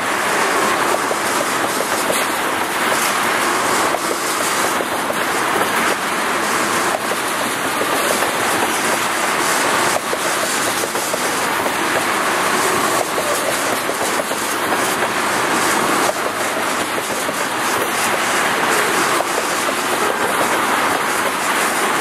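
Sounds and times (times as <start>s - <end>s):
train wheels rumbling on rail: 0.0s - 22.0s
wheels clattering over rail joints: 0.0s - 22.0s.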